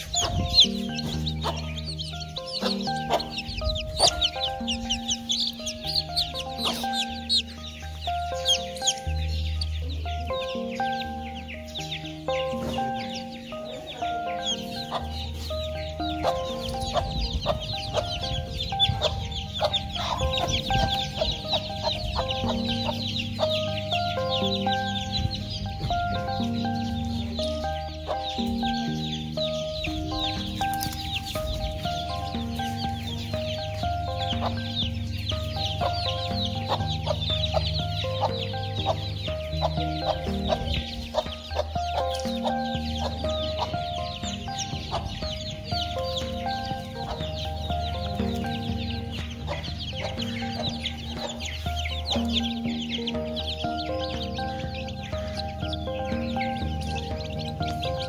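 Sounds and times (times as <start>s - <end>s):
baby chicks peeping: 0.0s - 58.0s
background music: 0.0s - 58.0s.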